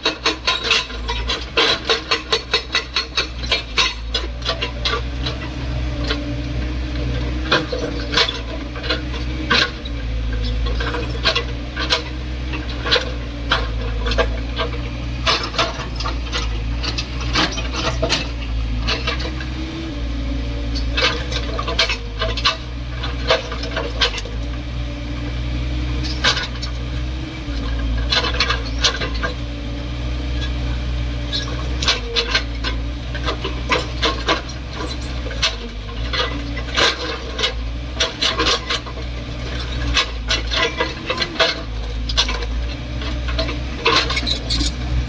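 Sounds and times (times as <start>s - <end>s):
sharp knocks and scraping clatter: 0.0s - 19.6s, 20.8s - 24.6s, 26.0s - 26.8s, 27.4s - 29.4s, 31.3s - 45.0s
excavator engine running: 0.0s - 45.0s.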